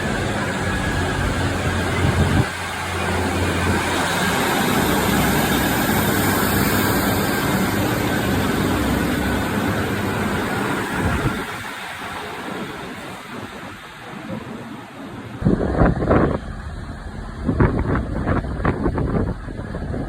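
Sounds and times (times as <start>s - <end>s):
train engine rumbling: 0.0s - 20.0s.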